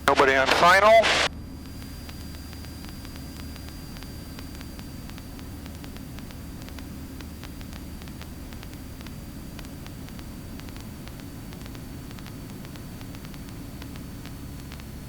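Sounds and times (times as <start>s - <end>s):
faint scattered clicks: 0.0s - 15.0s
steady hiss: 0.1s - 15.0s
low engine hum: 1.3s - 15.0s.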